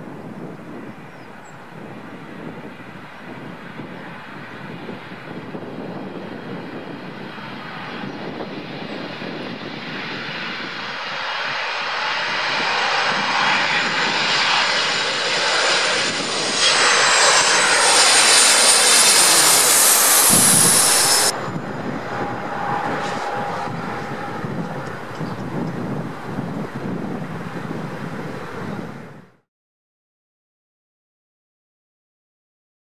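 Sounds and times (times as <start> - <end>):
airliner engines passing overhead: 0.0 - 29.4.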